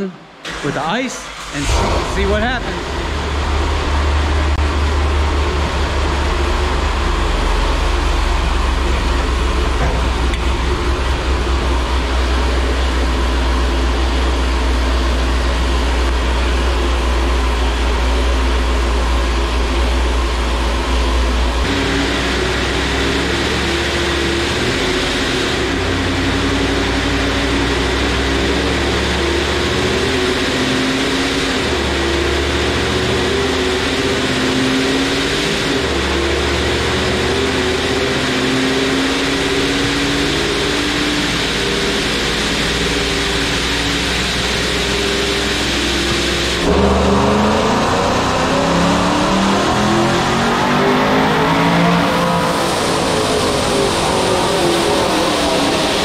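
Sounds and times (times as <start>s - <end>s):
engine running on dyno: 0.0s - 56.0s.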